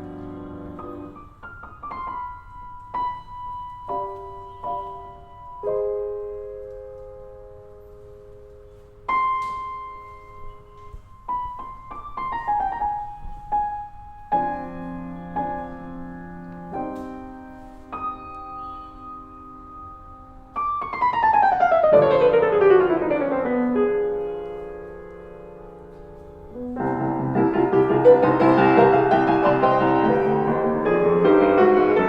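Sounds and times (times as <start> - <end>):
solo piano playing slowly: 0.0 - 32.0.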